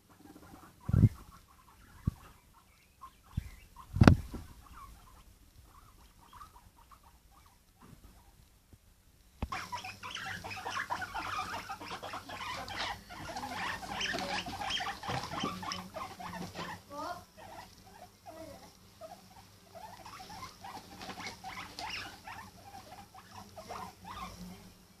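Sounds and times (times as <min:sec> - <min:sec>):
guinea pig squeaking: 0:00.0 - 0:08.5, 0:09.4 - 0:25.0.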